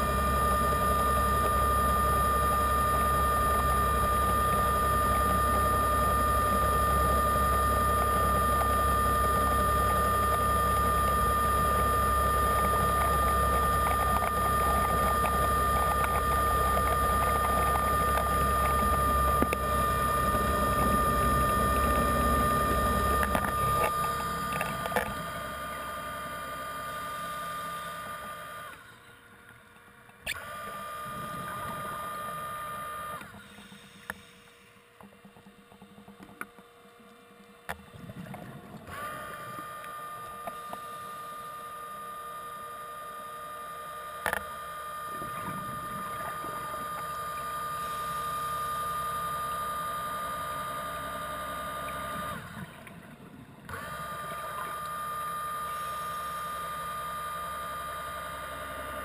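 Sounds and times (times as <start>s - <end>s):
high motor whine: 0.0s - 59.0s
underwater motor hum: 0.0s - 59.0s.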